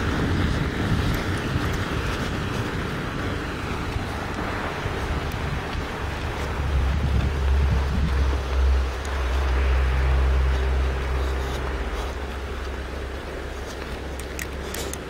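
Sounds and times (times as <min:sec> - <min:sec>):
car engine hum: 0:00.0 - 0:15.0
road rumble: 0:00.0 - 0:15.0.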